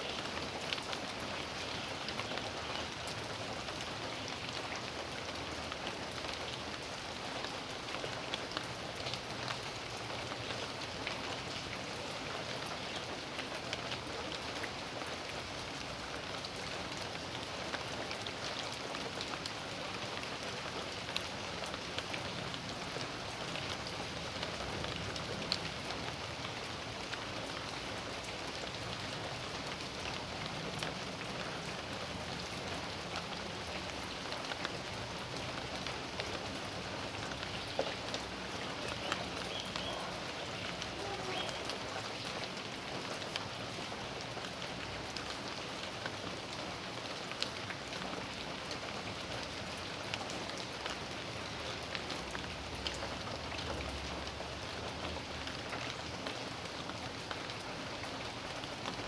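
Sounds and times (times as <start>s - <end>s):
raindrops ticking on surfaces: 0.0s - 59.0s
steady rain hiss: 0.0s - 59.0s.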